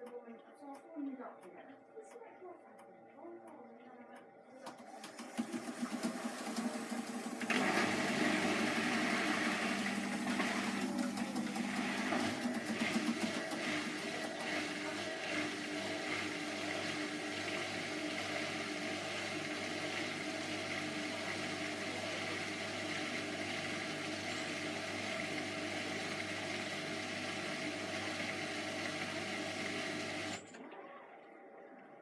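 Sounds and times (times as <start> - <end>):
washing machine running: 0.0 - 32.0.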